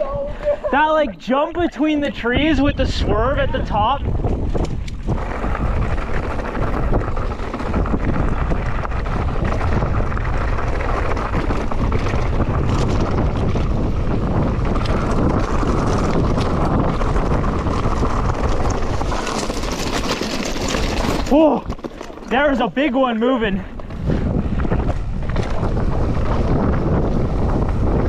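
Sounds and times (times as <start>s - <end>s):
bike tyre noise on dirt: 0.0s - 28.0s
wind rushing over microphone: 0.0s - 28.0s
bike clicks and knocks: 4.2s - 22.6s, 23.7s - 28.0s.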